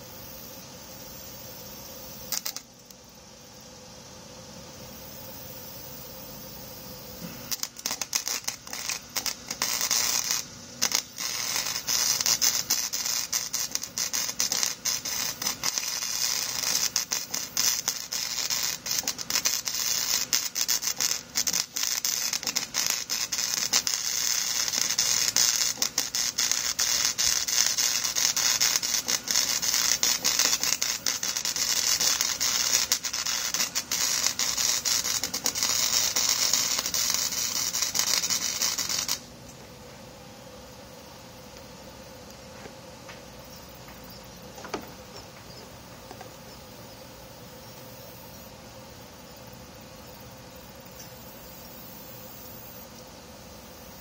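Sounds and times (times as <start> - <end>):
arc welding crackling sizzle: 0.0 - 54.0.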